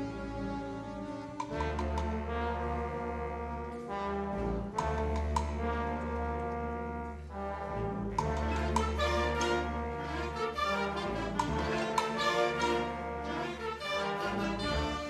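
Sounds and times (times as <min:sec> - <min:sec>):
deep tuba bass: 0:00.0 - 0:13.6
wind band playing brass chords: 0:00.0 - 0:15.0.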